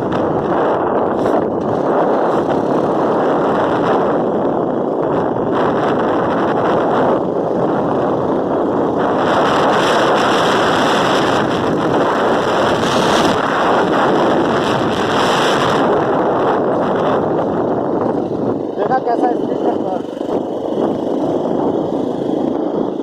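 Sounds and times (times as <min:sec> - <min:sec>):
moving vehicle noise: 0:00.0 - 0:23.0
wind buffeting microphone: 0:00.0 - 0:23.0.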